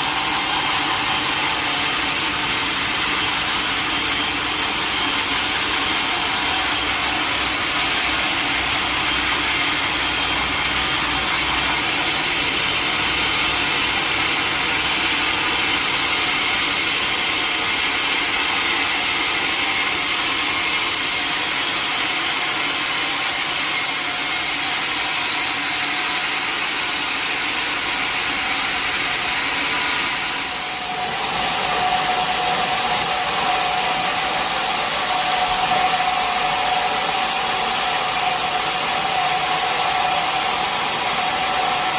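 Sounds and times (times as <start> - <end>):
saw blade cutting log: 0.0 - 41.9.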